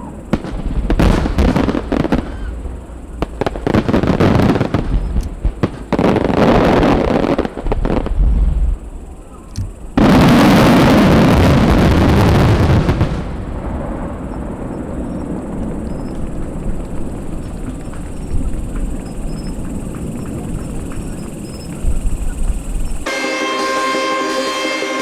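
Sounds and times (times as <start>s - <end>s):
fireworks bursting and crackling: 0.0s - 23.1s.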